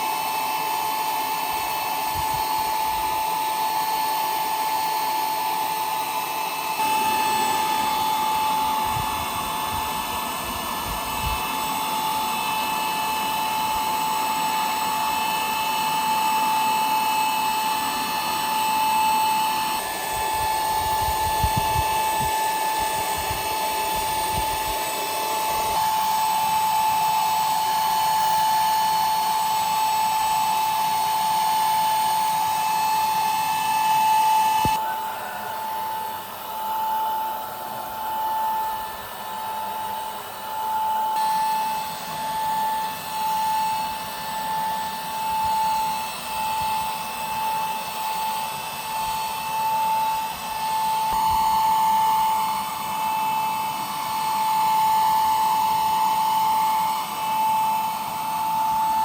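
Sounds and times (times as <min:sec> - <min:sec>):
power tool high-pitched whine: 0:00.0 - 0:59.0.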